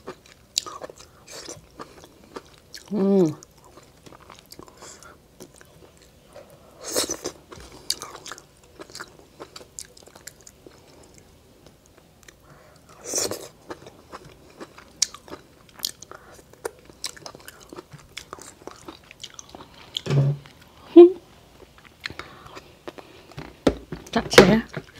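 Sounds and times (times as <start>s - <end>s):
chewing: 0.0s - 20.8s.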